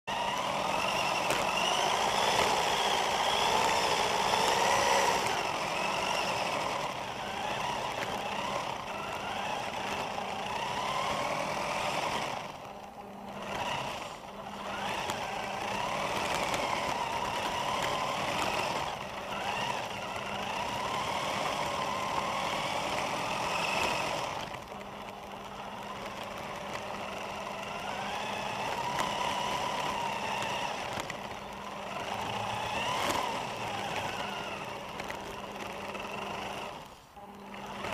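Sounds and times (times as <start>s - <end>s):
rc car motor whining: 0.0s - 37.9s.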